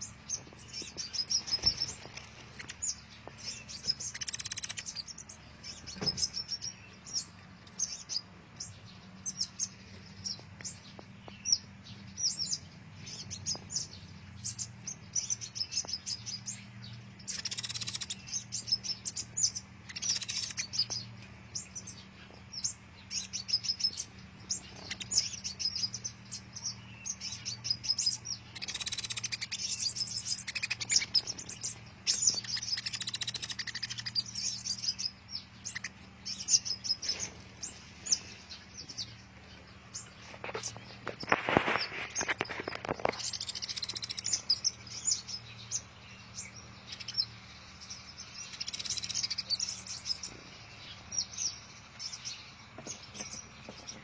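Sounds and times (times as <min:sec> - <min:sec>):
sunbirds chirping: 0:00.0 - 0:54.0.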